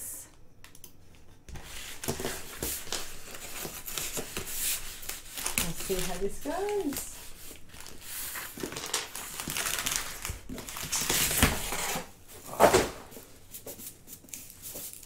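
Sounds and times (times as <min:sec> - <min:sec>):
paper and cardboard rustling: 0:01.5 - 0:15.0.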